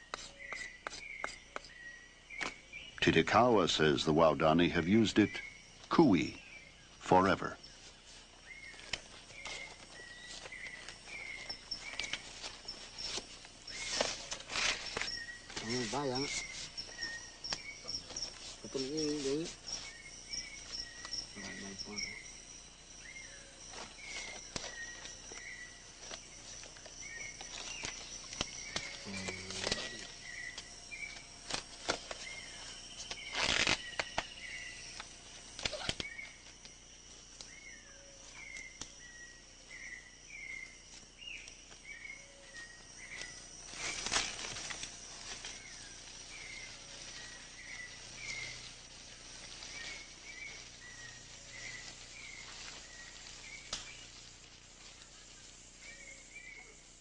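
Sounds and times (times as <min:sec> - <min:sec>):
bird chirping: 0:00.0 - 0:54.2, 0:55.0 - 0:57.0
high-pitched insect drone: 0:08.6 - 0:57.0.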